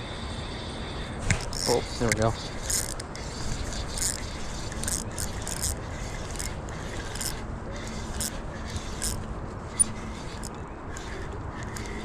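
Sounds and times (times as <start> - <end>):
fishing reel rasping: 0.0 - 12.0
low background rush: 0.0 - 12.0.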